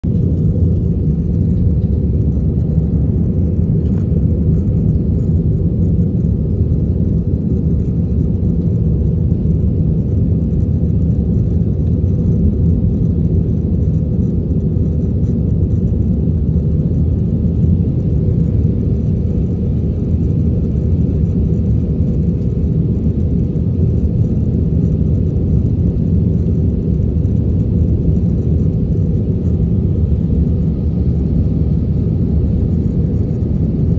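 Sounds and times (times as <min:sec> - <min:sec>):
jet cabin engine rumble: 0:00.0 - 0:33.9.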